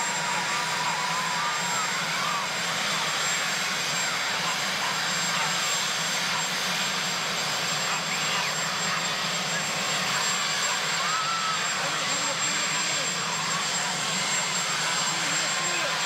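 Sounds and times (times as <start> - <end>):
helicopter turbine engines running: 0.0 - 16.0.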